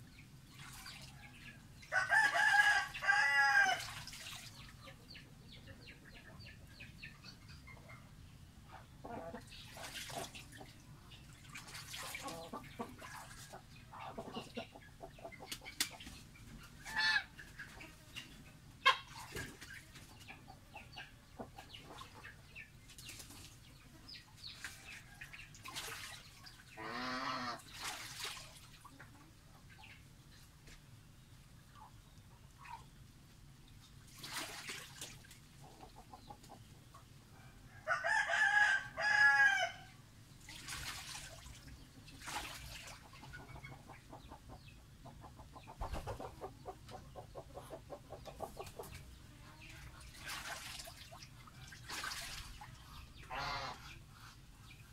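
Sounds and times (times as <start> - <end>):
chickens clucking and calling: 0.0 - 27.8, 28.8 - 34.0, 35.1 - 40.9, 41.6 - 50.4, 51.2 - 54.9.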